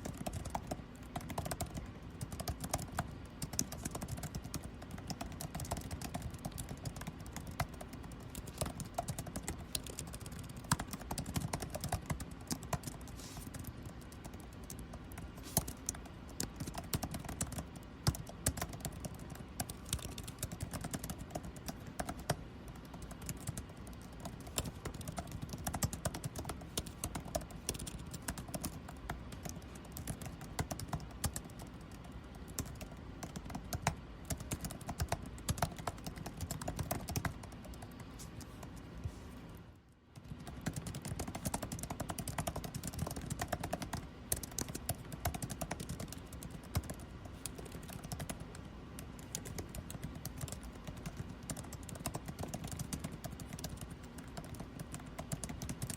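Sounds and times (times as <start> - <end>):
typing on computer keyboard: 0.0 - 38.9, 40.1 - 55.9
air conditioning hum: 0.0 - 55.9.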